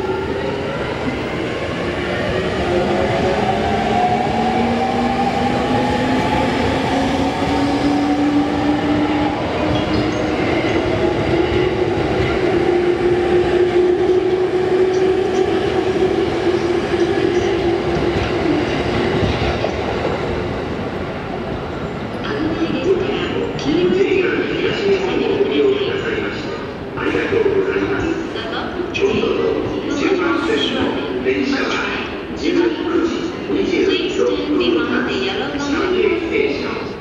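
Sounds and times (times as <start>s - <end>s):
rumble of passing train cars: 0.0s - 37.0s.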